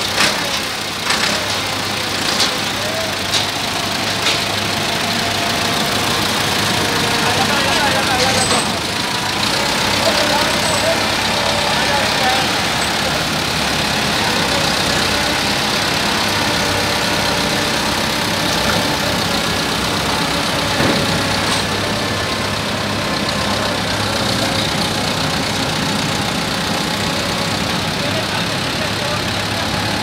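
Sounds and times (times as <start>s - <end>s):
tractor diesel engine idling: 0.0s - 30.0s.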